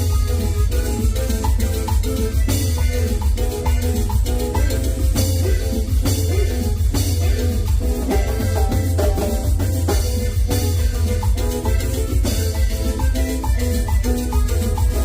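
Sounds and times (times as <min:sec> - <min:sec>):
latin dance music: 0:00.0 - 0:15.0.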